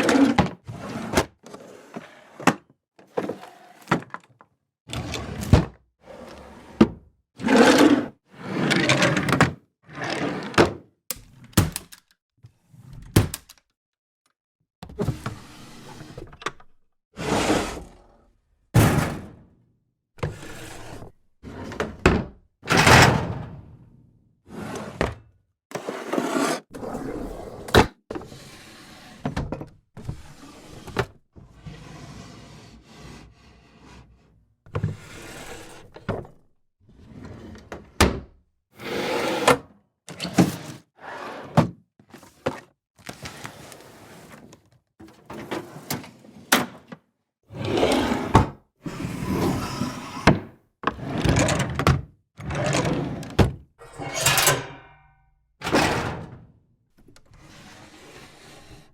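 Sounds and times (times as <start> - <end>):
drawers sliding open and shut: 0.0 - 13.6, 14.9 - 18.2, 18.8 - 19.5, 20.2 - 23.8, 24.5 - 36.4, 37.0 - 58.9.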